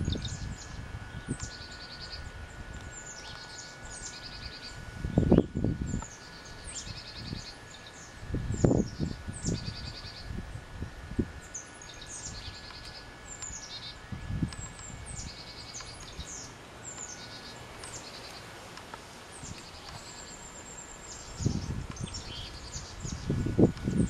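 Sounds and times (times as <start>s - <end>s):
buzzy bird trills: 0.0s - 24.0s
songbirds calling: 0.0s - 24.0s.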